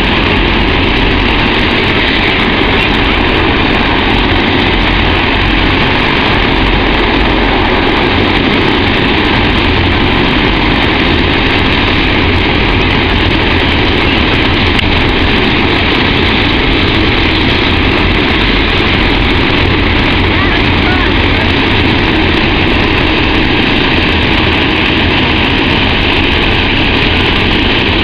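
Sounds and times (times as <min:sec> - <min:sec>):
hovercraft running: 0:00.0 - 0:28.0.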